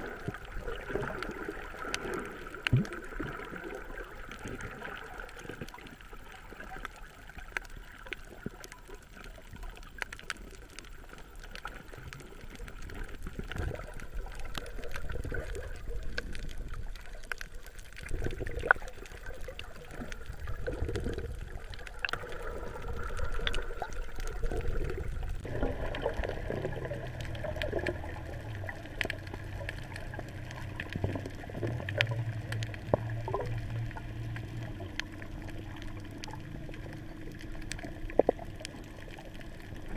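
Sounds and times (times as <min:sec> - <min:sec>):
low steady hum: 0:00.0 - 0:39.9
muffled underwater sloshing and bubbling: 0:00.0 - 0:39.9
small clicks: 0:06.7 - 0:39.9.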